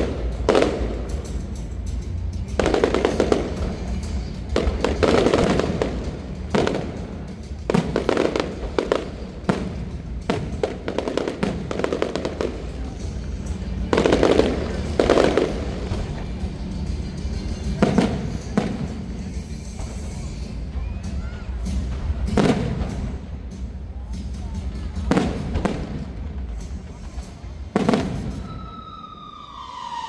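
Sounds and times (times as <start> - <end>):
fireworks bursting with bangs: 0.0 - 30.0.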